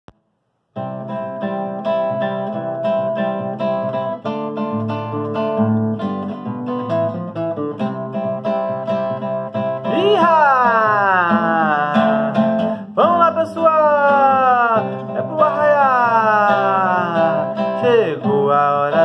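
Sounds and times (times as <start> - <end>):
acoustic guitar strumming chords: 0.7 - 19.0.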